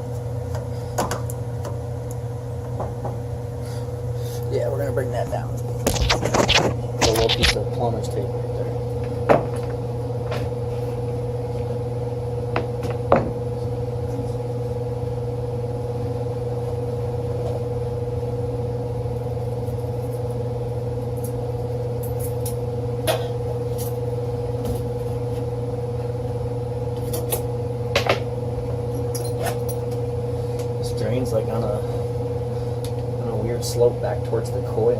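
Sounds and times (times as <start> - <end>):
mechanical hum with whine: 0.0 - 34.9.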